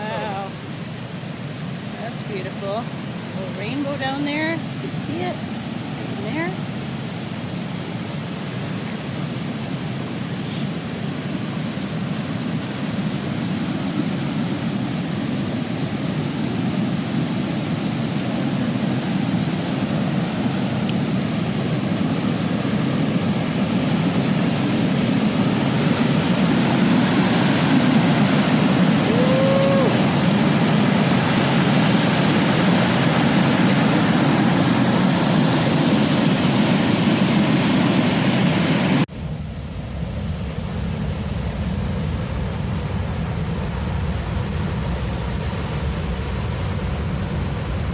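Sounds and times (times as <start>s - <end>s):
river and waterfall rushing: 0.0s - 47.9s.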